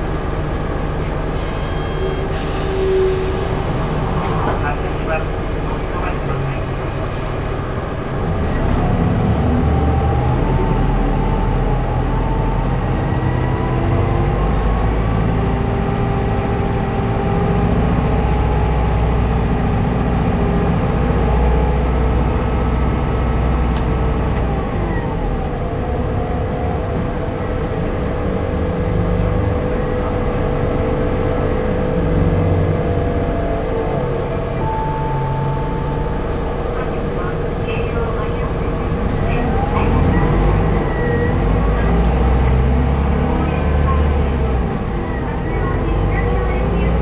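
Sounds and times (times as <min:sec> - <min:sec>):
bus engine drone with whine: 0:00.0 - 0:47.0.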